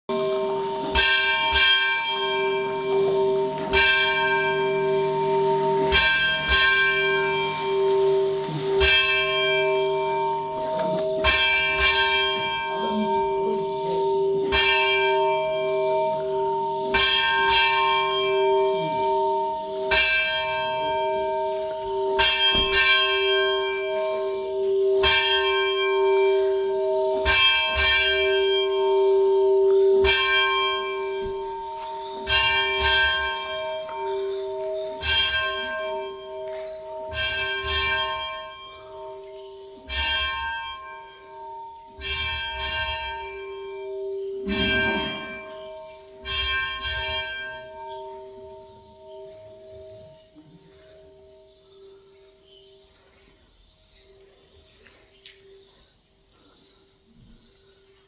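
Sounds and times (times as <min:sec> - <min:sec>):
church bell ringing: 0:00.1 - 0:53.2.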